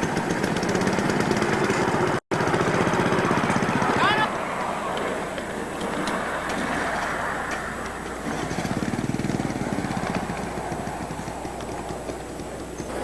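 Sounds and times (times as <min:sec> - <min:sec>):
background hubbub: 0:00.0 - 0:13.0
miniature train running by: 0:00.0 - 0:13.0.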